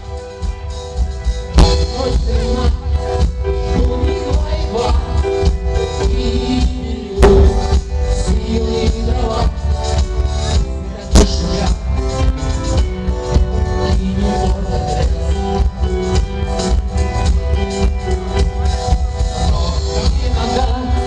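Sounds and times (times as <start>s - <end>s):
bass guitar: 0.0s - 21.0s
drum kit: 0.0s - 21.0s
electric guitar: 0.0s - 21.0s
keyboard: 0.0s - 21.0s.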